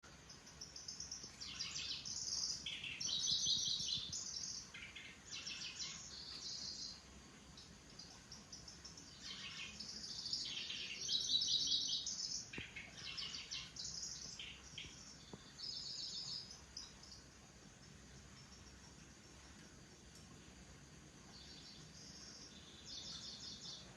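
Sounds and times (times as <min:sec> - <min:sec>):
small bird buzzy trilling song: 0:00.1 - 0:19.8, 0:21.3 - 0:23.9.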